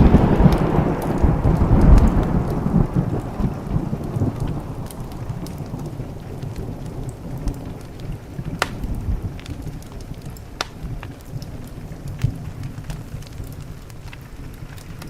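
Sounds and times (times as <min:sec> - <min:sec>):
low thunder rumble: 0:00.0 - 0:15.0
rain on a window: 0:00.0 - 0:15.0
sharp fire pops: 0:00.0 - 0:15.0
wood fire crackling: 0:00.0 - 0:15.0.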